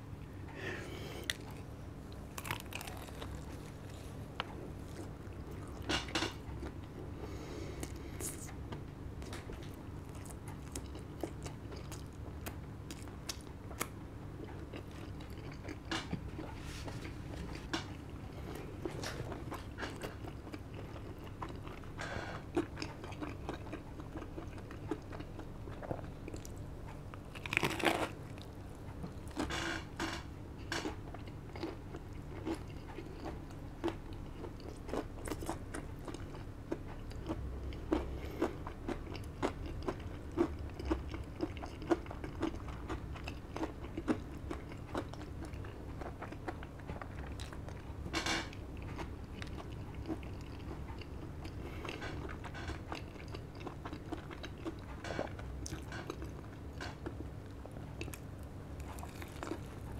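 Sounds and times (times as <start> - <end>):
person chewing crunchy fried chicken: 0.2 - 59.9.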